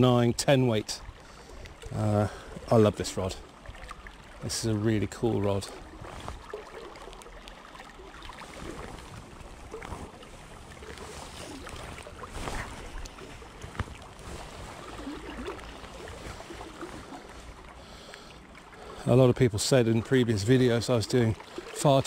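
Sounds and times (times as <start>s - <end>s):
river water lapping: 0.0s - 22.0s.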